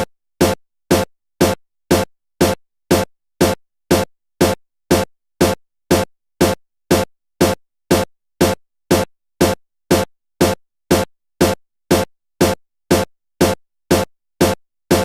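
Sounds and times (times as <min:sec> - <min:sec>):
punchy electronic beat: 0:00.0 - 0:15.0.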